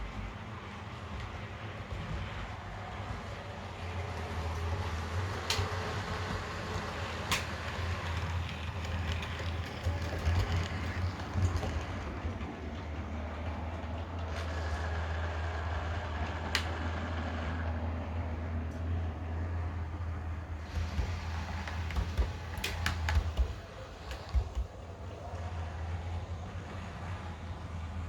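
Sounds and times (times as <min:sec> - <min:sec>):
diesel engine hum from small speaker: 0:00.0 - 0:28.0.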